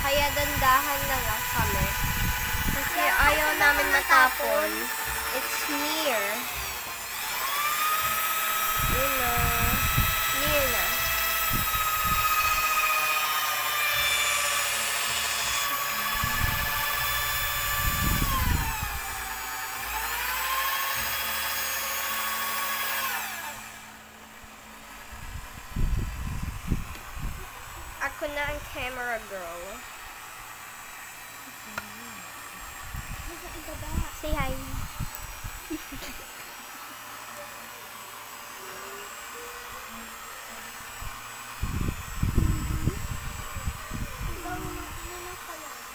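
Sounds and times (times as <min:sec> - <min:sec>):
electric drill mixing soap: 0:00.0 - 0:45.9.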